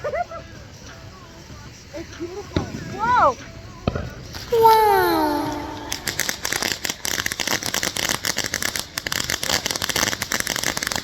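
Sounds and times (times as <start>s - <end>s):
firework crackling: 0.0s - 11.0s.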